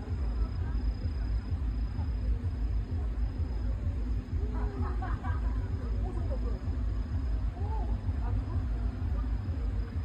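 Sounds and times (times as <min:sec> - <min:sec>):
faint crowd voices talking: 0:00.0 - 0:10.0
low fluctuating rumble: 0:00.0 - 0:10.0.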